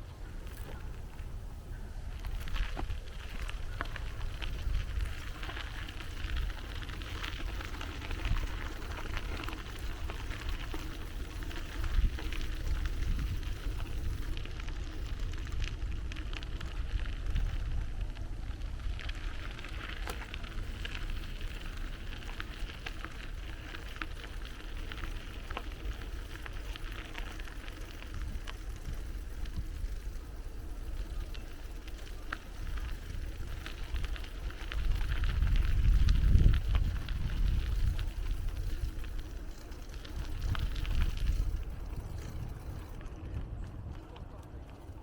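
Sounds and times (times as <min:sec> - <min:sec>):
bicycle tyres rolling on path: 0:00.0 - 0:45.0
wind rumble on microphone: 0:00.0 - 0:45.0
small clicks and rattles: 0:02.2 - 0:45.0.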